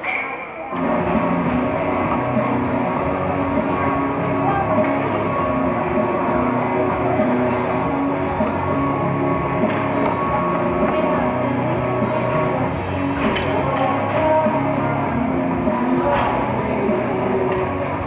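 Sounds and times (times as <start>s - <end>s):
rock music with electric guitar: 0.0s - 18.0s.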